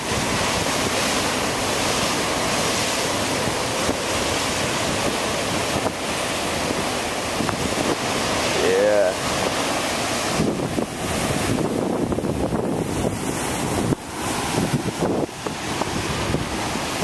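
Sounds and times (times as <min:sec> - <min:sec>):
ocean surf breaking over rocks: 0:00.0 - 0:17.0
wind buffeting microphone: 0:00.0 - 0:17.0.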